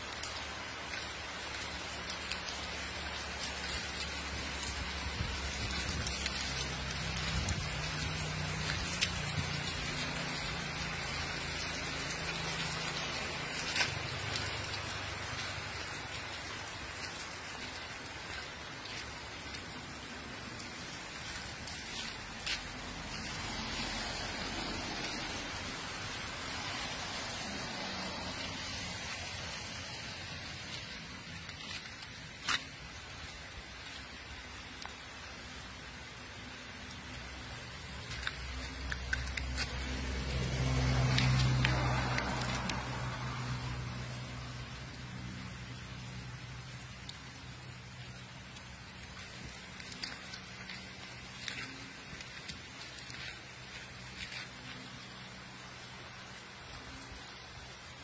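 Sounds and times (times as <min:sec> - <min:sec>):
rain on wet pavement: 0:00.0 - 0:58.0.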